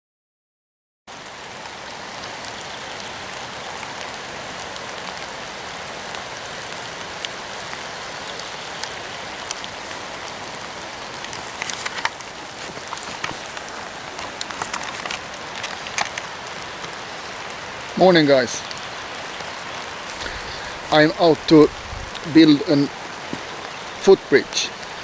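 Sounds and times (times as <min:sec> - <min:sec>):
steady rain falling: 0:01.1 - 0:25.0.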